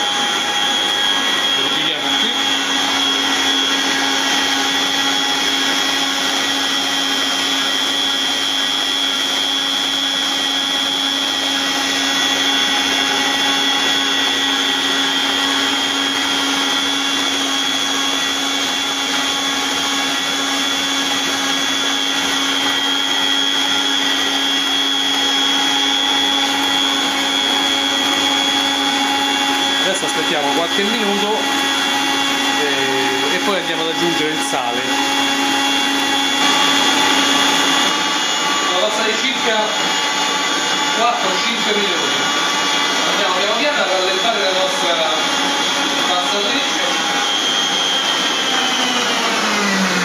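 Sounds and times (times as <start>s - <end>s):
stand mixer motor whine: 0.0s - 50.0s.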